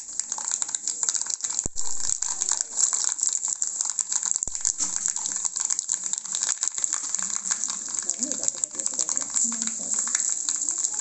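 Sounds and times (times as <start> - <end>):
oil sizzling and crackling in a pan: 0.0 - 11.0.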